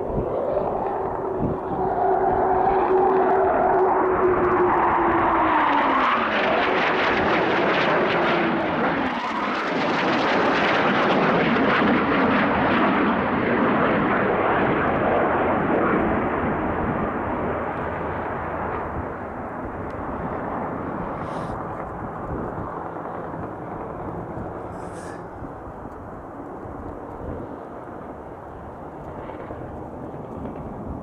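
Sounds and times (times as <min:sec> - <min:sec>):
jets flying low past: 0:00.0 - 0:31.0.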